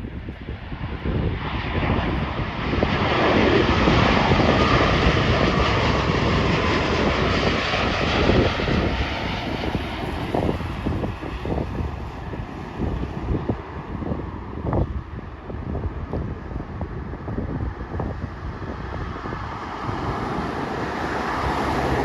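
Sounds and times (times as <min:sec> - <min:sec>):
jet airliner passing: 0:00.0 - 0:22.0
wind buffeting microphone: 0:00.0 - 0:22.0.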